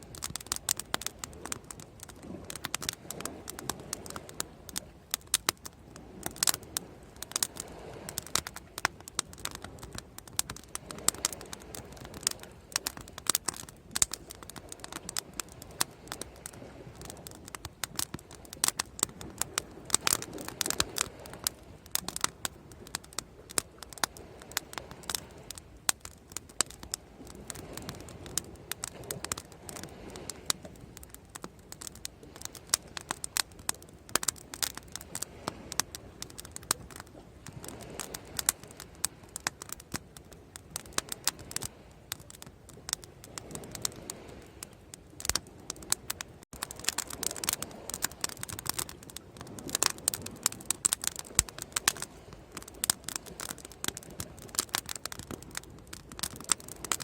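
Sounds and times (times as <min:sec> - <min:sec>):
bonfire crackling and popping: 0:00.0 - 0:57.0.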